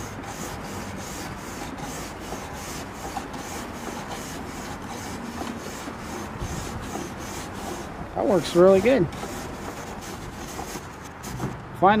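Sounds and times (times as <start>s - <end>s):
wire brush scraping grill grates: 0.0s - 11.6s.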